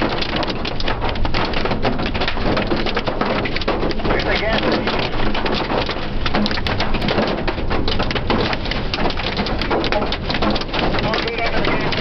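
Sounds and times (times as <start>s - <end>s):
rain and hail on car roof: 0.0s - 12.0s.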